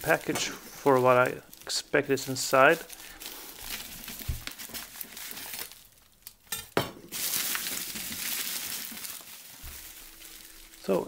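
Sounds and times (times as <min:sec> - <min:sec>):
plastic mailer crinkling: 0:00.0 - 0:06.4, 0:07.1 - 0:11.0.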